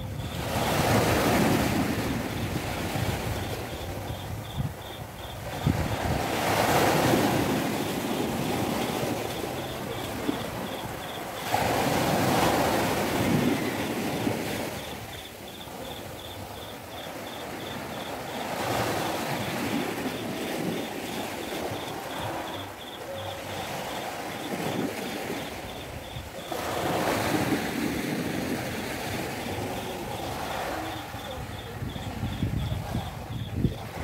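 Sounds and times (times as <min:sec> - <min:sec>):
small waves washing on beach: 0:00.0 - 0:34.0.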